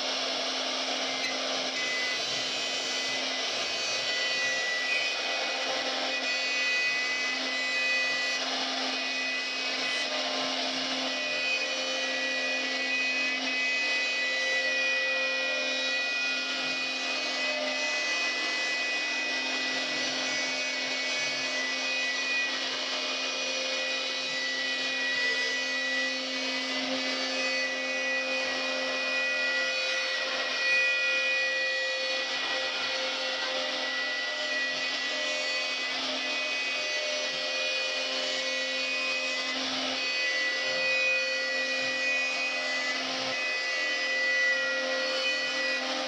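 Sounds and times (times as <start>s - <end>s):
bit cutting wood: 0.0s - 46.0s
router spindle whine: 0.0s - 46.0s.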